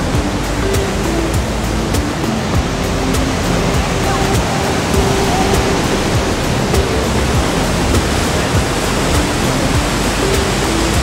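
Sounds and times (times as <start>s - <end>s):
rushing whitewater rapids: 0.0s - 11.0s
soft background music: 0.0s - 11.0s.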